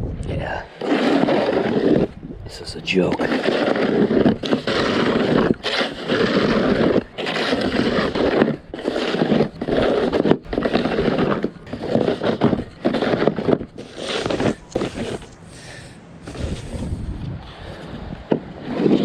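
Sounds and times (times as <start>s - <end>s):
snow shovel scraping pavement: 0.4s - 17.0s, 17.6s - 19.0s.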